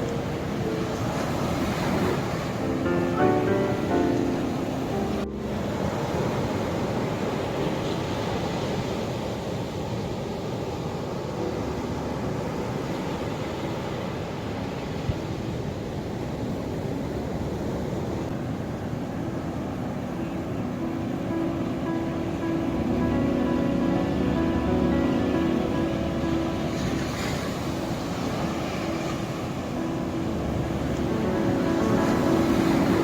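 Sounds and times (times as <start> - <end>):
ocean waves rushing: 0.0 - 33.0.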